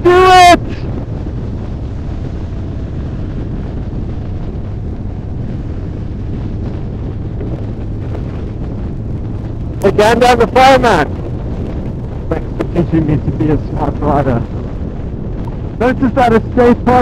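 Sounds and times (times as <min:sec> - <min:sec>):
motorcycle engine and road noise: 0:00.0 - 0:17.0
wind rushing over microphone: 0:00.0 - 0:17.0.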